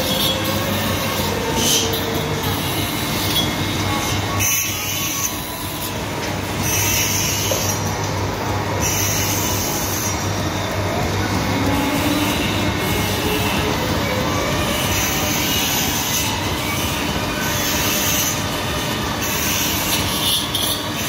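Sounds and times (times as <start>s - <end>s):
saw whining cutting stone: 0.0s - 7.9s, 11.6s - 21.0s
saw humming and grinding: 0.0s - 21.0s.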